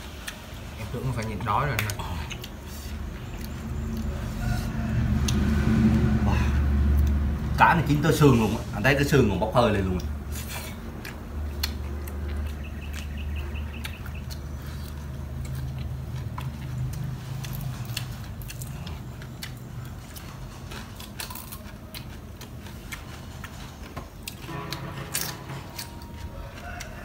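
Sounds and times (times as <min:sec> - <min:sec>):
person chewing: 0:00.0 - 0:08.1, 0:09.7 - 0:27.0
low steady hum: 0:00.0 - 0:27.0.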